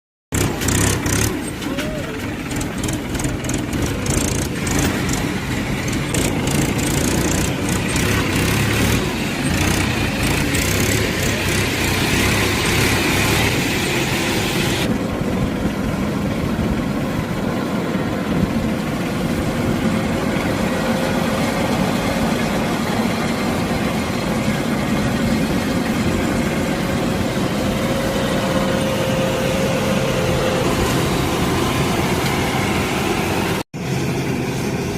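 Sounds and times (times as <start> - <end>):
harvester engine drone: 0.3 - 34.9.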